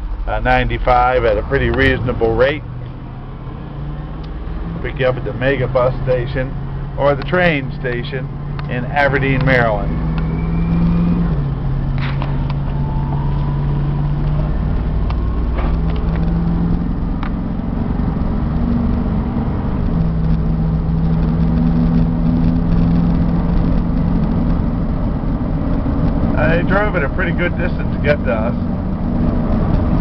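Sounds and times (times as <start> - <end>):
road and wind noise: 0.0 - 30.0
truck engine at highway speed: 0.0 - 30.0.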